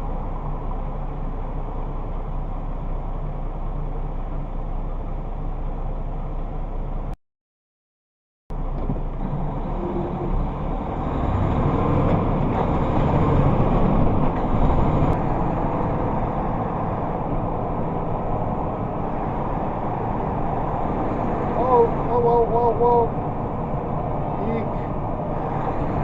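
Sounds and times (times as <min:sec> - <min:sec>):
vehicle road and engine rumble: 0:00.0 - 0:07.2, 0:08.5 - 0:26.0.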